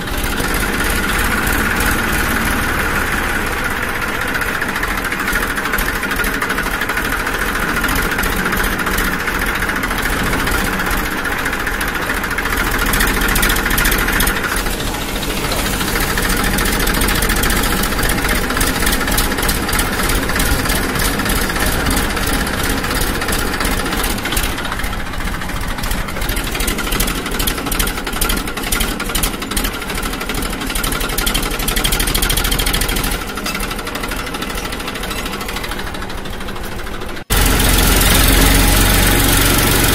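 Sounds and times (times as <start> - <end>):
small motor running rattly: 0.0 - 39.9.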